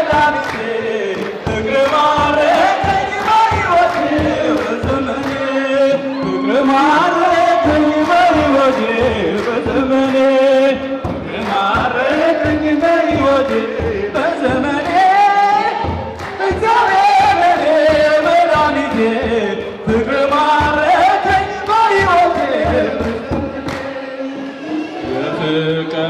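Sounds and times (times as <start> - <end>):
hand clapping: 0.0 - 24.6
group singing a hymn: 0.0 - 26.0.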